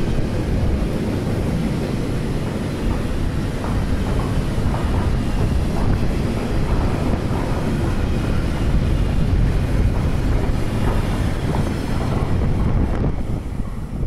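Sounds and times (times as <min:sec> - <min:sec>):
freight wagons rumbling on track: 0:00.0 - 0:14.0
wind buffeting microphone: 0:00.0 - 0:14.0.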